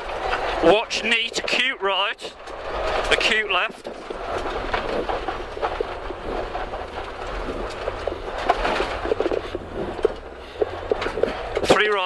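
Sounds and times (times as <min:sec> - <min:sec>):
gravel striking underbody: 0:00.0 - 0:12.0
low engine drone: 0:00.0 - 0:12.0.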